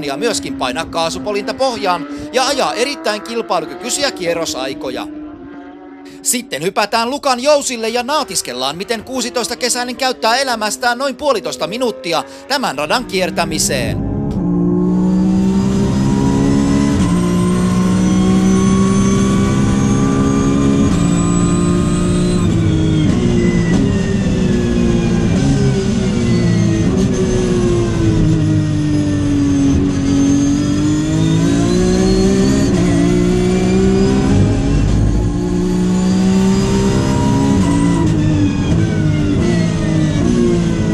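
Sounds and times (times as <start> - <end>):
race car engine: 0.0 - 40.9.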